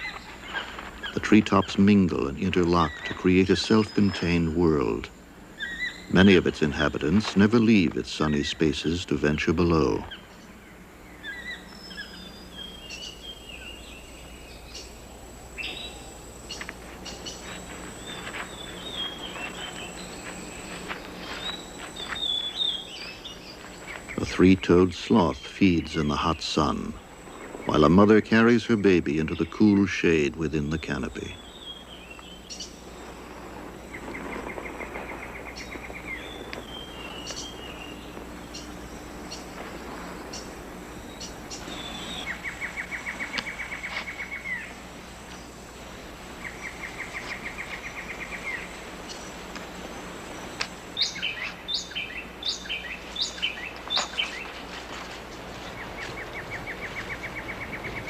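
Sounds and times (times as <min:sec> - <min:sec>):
birds chirping and whistling: 0:00.0 - 0:09.0, 0:10.0 - 0:45.6, 0:46.3 - 0:58.0
high insect drone: 0:00.0 - 0:58.0
steady background hiss: 0:00.0 - 0:58.0.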